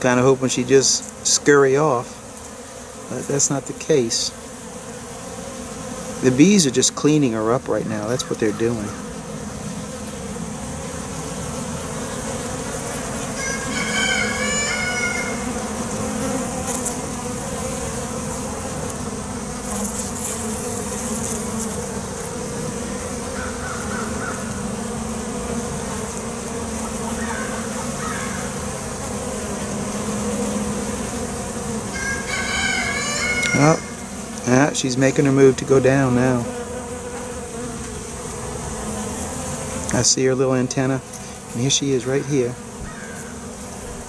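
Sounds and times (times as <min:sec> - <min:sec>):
honeybees buzzing: 0:00.0 - 0:44.0.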